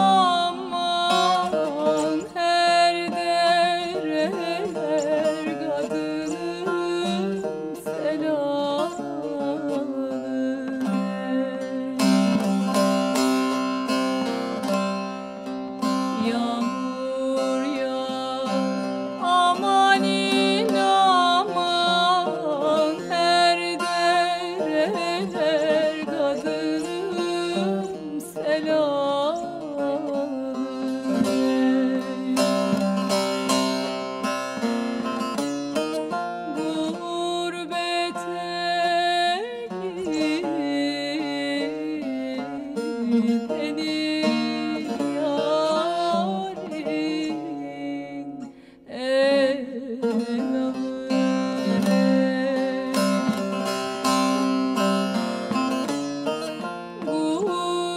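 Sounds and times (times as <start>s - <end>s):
folk song singing: 0.0s - 13.8s, 16.2s - 34.6s, 35.9s - 55.9s
plucked string instrument: 0.0s - 57.9s.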